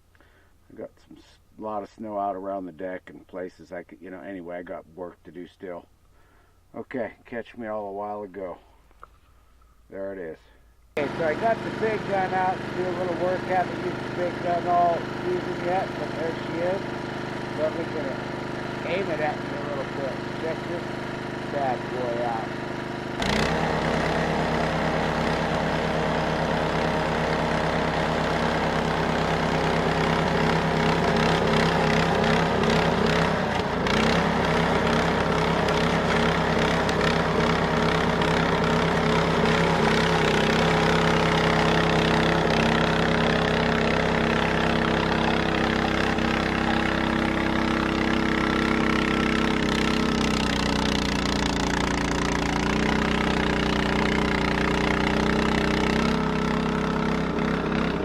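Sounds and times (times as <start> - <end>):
snowblower engine running: 11.0 - 58.0.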